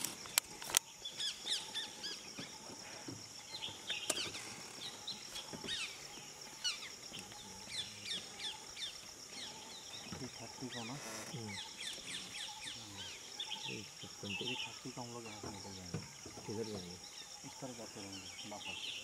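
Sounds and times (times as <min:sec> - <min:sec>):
birds chirping: 0:00.1 - 0:19.0.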